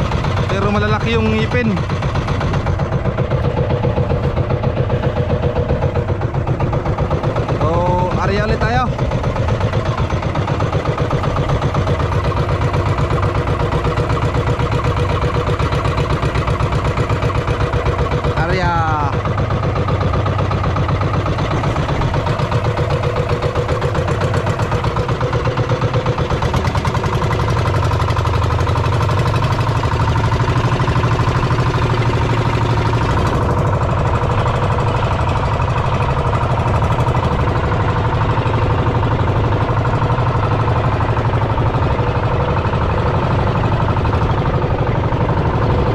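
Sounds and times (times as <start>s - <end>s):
boat engine running steadily: 0.0s - 45.9s.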